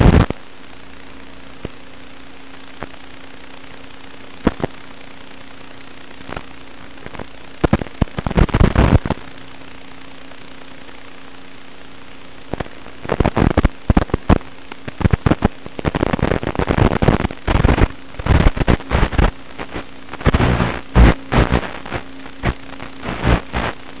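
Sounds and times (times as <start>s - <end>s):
crackling noise bursts: 0.0s - 24.0s
faint steady hum: 0.0s - 24.0s
steady hiss: 0.0s - 24.0s.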